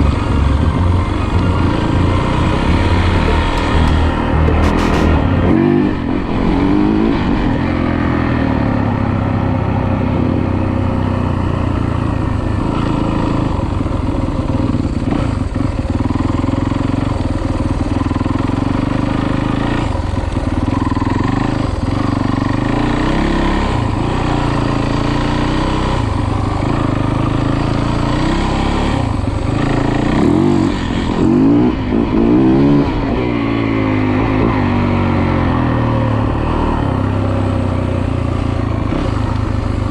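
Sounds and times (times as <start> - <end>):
dirt bike engine revving: 0.0 - 17.0, 17.6 - 39.9.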